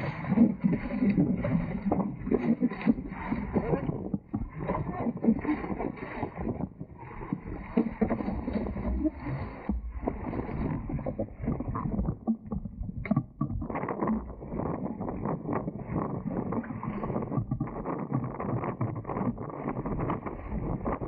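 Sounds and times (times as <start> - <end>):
water slapping against boat hulls: 0.0 - 21.0
wind rumbling on microphone: 0.0 - 21.0.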